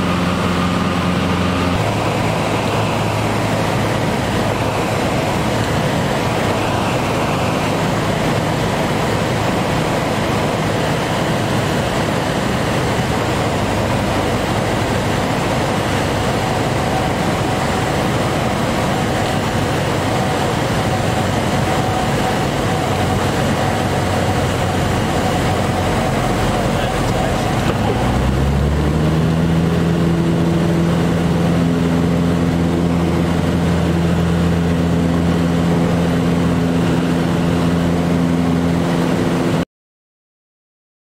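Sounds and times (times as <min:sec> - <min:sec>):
aircraft propeller engines droning: 0:00.0 - 0:39.6.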